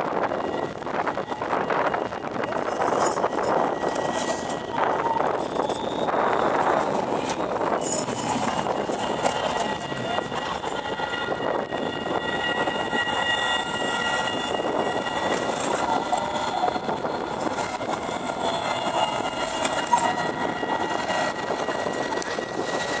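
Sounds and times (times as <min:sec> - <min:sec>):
high motor whine: 0:00.0 - 0:23.0
tram wheels rumbling on track: 0:00.0 - 0:23.0.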